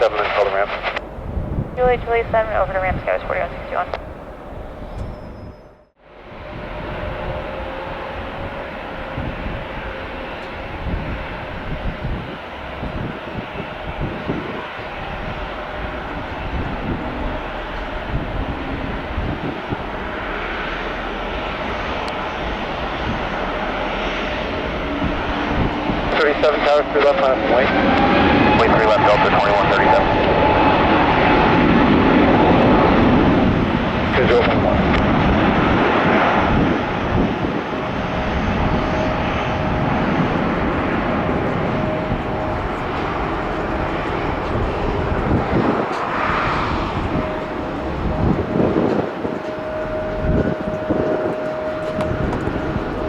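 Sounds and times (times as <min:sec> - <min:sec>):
jet engines at takeoff: 0:00.0 - 0:53.0.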